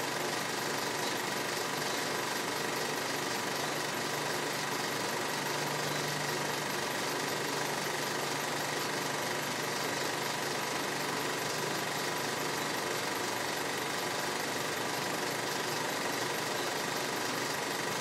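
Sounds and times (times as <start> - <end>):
rattling mechanical hum: 0.1 - 18.0.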